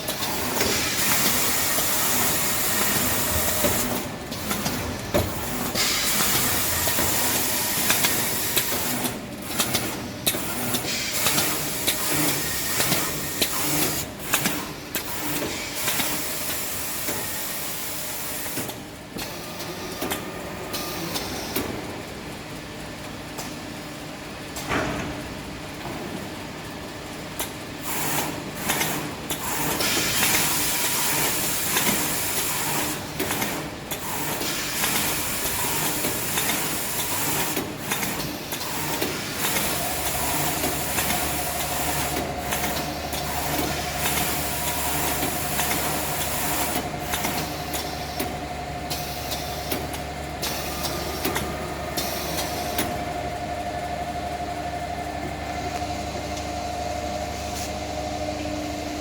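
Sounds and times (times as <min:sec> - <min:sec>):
motor humming and whining: 0:00.0 - 0:18.6, 0:29.4 - 0:59.0.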